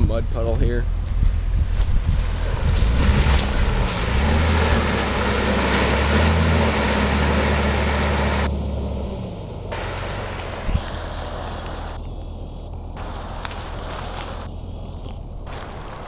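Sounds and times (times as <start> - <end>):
car engine running: 0.6 - 16.0
car driving through mud puddle: 1.8 - 12.0, 13.0 - 16.0.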